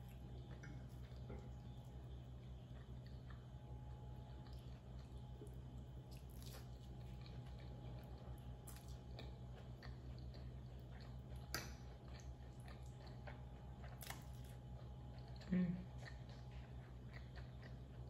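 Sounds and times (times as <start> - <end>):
person chewing soft food: 0.0 - 18.0
steady low hum: 0.0 - 18.0.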